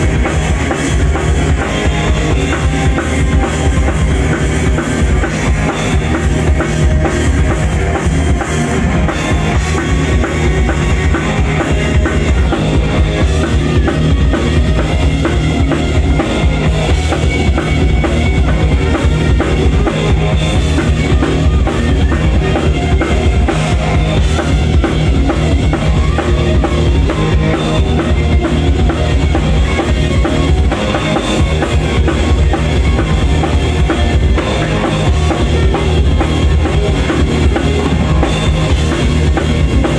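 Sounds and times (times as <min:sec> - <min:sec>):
drum kit pounding: 0:00.0 - 0:39.9
hard rock band playing: 0:00.0 - 0:39.9.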